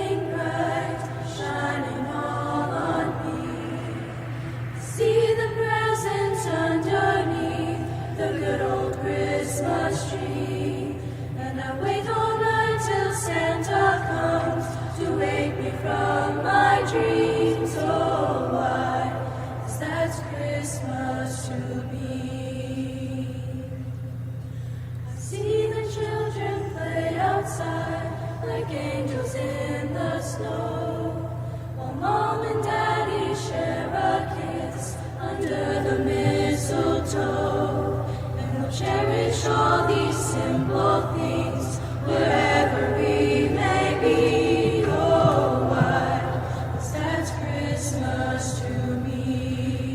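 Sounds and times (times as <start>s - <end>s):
choir singing: 0.0s - 23.9s, 25.2s - 49.9s
steady low hum: 0.0s - 49.9s.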